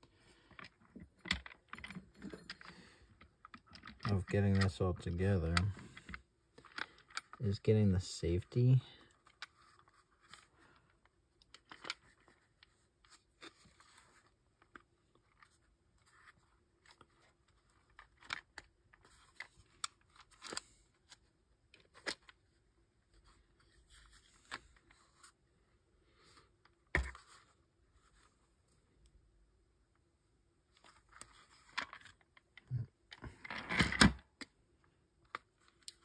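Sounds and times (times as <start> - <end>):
plastic parts clicking and scraping: 0.0 - 25.4, 30.7 - 36.0.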